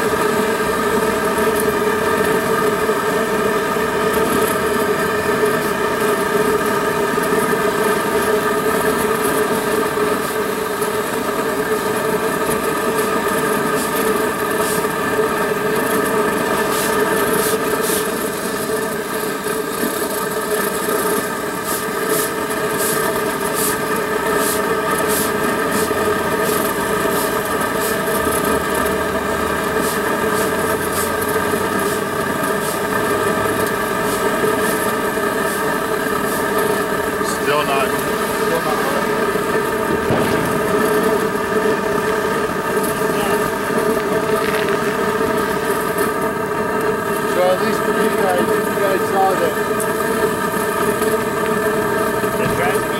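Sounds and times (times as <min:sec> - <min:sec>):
machine droning: 0:00.0 - 0:52.9.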